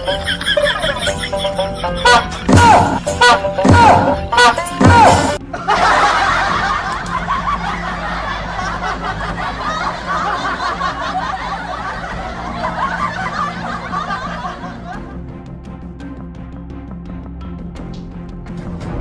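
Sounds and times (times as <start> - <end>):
crowd laughing: 0.0 - 15.4.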